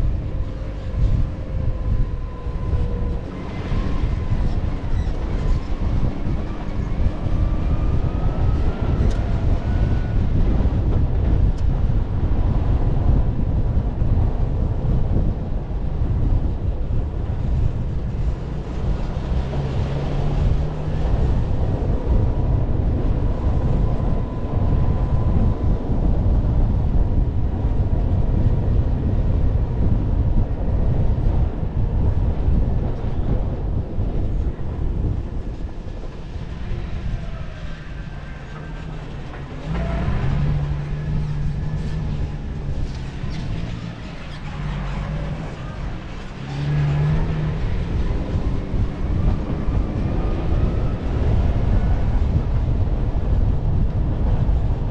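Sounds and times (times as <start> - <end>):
engine and road rumble: 0.0 - 54.9.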